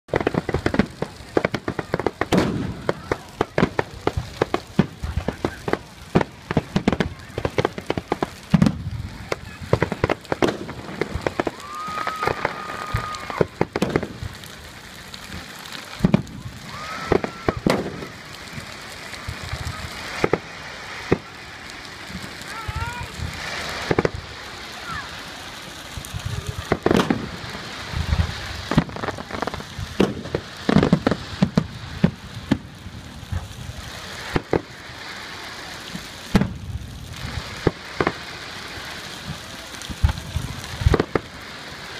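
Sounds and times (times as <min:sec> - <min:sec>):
bonfire crackling and popping: 0:00.0 - 0:41.9.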